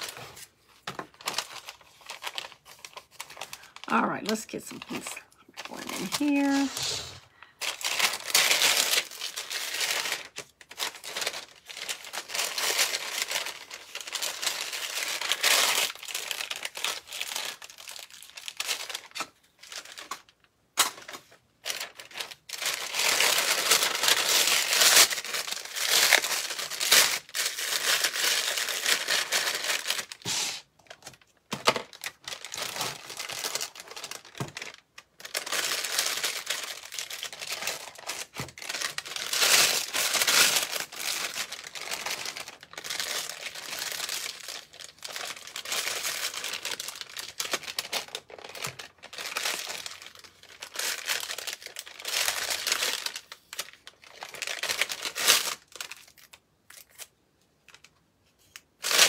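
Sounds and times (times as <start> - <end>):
plastic piping bag crinkling: 0.0 - 57.1.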